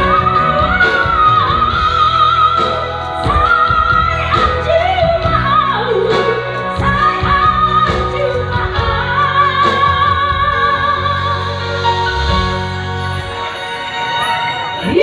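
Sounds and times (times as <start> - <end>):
women singing with vibrato: 0.0 - 12.1
backing music: 0.0 - 15.0.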